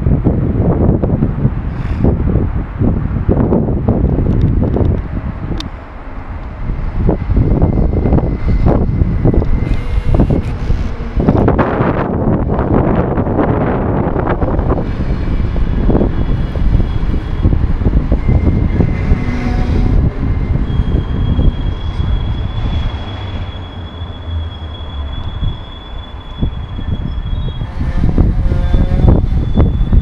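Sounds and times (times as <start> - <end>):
train wheels rumbling and clattering: 1.6 - 30.0.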